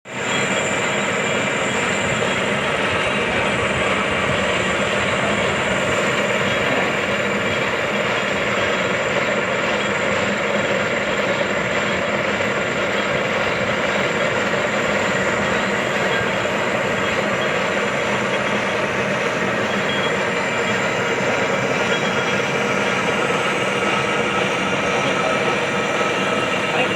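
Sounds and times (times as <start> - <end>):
machine tool running: 0.1 - 26.9.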